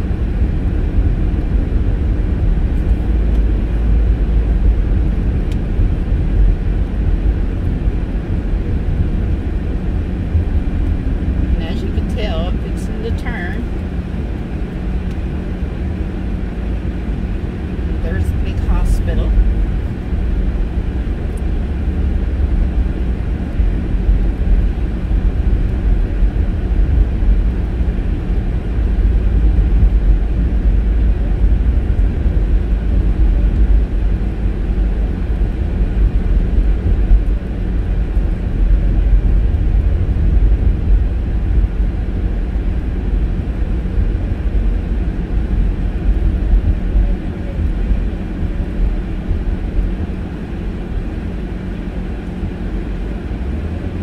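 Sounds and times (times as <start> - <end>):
car engine running: 0.0 - 54.0
road and tyre noise in car: 0.0 - 54.0.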